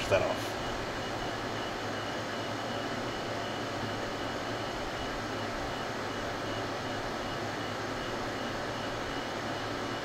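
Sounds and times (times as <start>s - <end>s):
machine hiss and hum: 0.0s - 10.0s.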